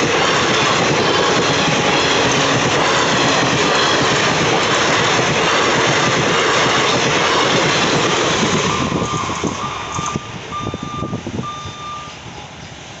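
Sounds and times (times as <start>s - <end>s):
train coaches rolling over rails: 0.0s - 13.0s.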